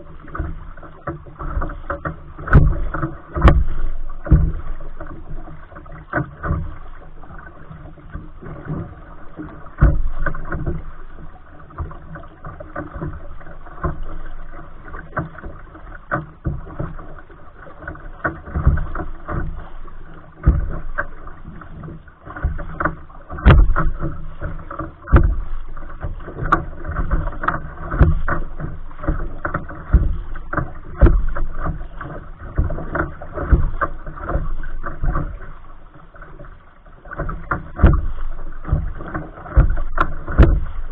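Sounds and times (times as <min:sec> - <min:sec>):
steady wash of water: 0:00.0 - 0:40.9
water splashing against kayak hull: 0:00.0 - 0:40.9.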